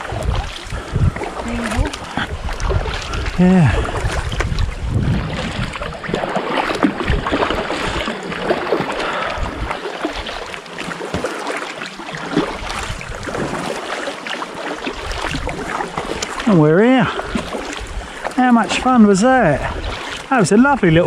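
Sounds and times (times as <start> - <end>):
small splashes and drips: 0.0 - 20.7
kayak paddles stroking water: 0.0 - 21.0.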